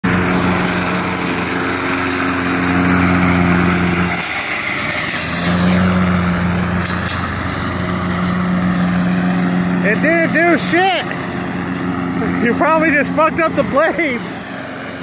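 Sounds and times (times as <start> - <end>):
mower blades over brush and rocks: 0.0 - 15.0
riding lawn mower engine: 0.0 - 15.0.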